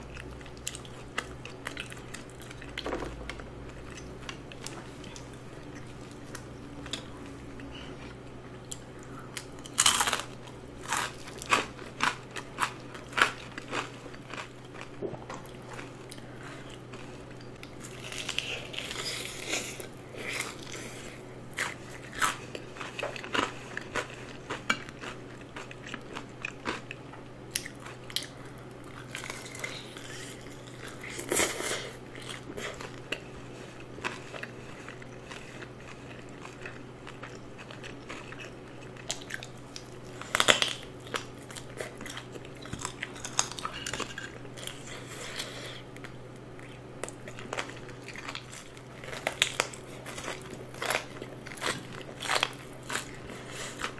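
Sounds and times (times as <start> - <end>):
crunching fried chicken: 0.0 - 53.9
chewing: 0.1 - 53.9.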